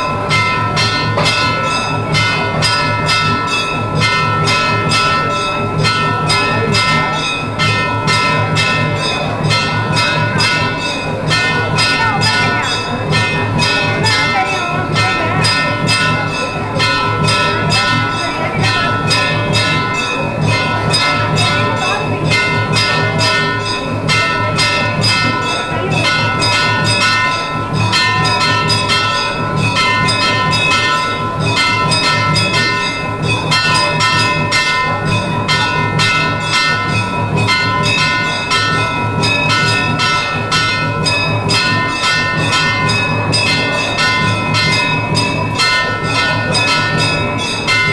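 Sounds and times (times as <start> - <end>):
temple bells struck rapidly: 0.0 - 47.9.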